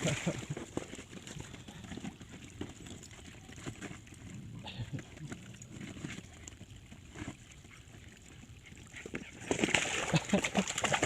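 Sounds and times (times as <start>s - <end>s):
puppies splashing in water: 0.0s - 11.0s.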